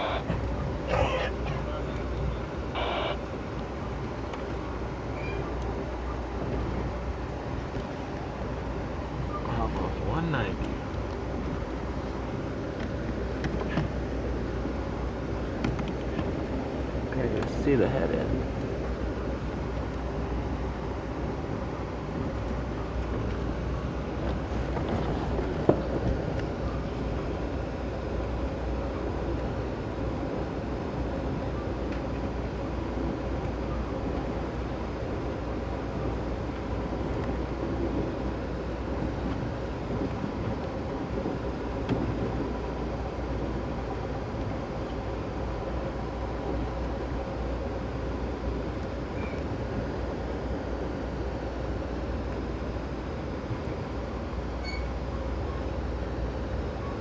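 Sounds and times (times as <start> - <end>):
train rumbling on board: 0.0 - 57.0.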